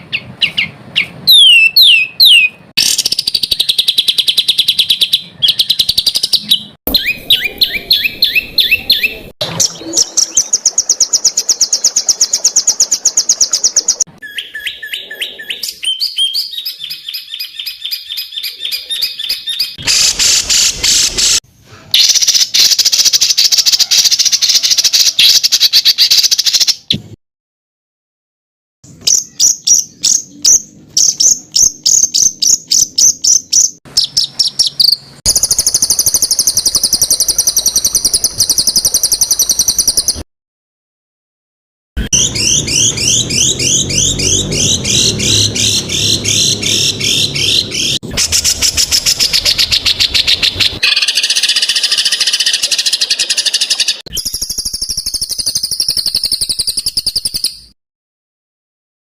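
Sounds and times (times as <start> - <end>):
songbird harsh notes and trills: 0.0 - 21.4, 28.9 - 40.2, 42.0 - 57.7.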